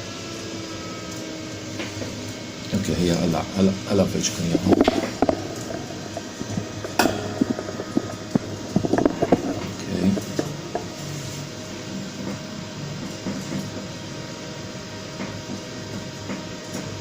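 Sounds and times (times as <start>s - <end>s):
server cooling fans humming: 0.0s - 17.0s.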